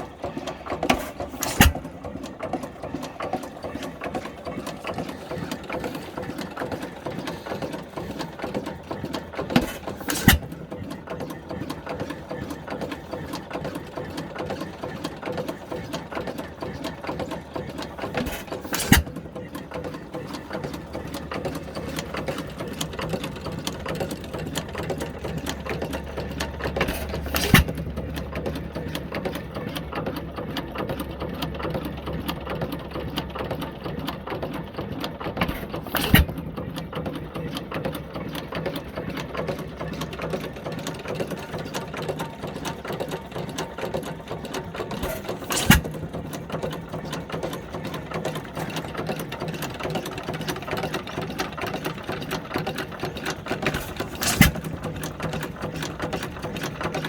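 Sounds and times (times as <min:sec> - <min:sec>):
stationary engine clatter: 0:00.0 - 0:57.0.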